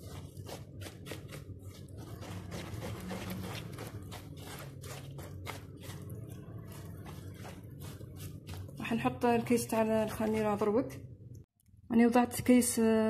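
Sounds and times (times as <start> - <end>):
scraping stirring in a bowl: 0.0 - 10.8.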